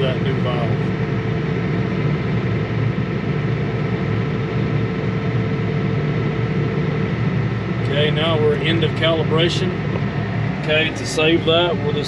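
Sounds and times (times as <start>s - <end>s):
faint steady whine: 0.0s - 12.0s
tractor diesel engine rumbling: 0.0s - 12.0s.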